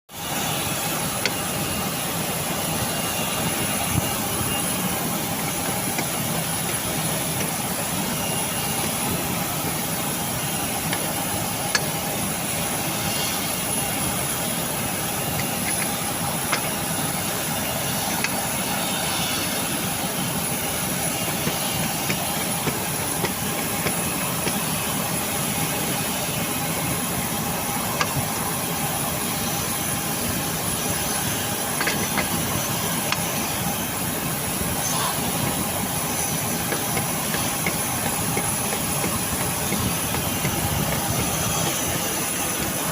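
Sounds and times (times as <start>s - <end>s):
machine running: 0.2s - 42.9s.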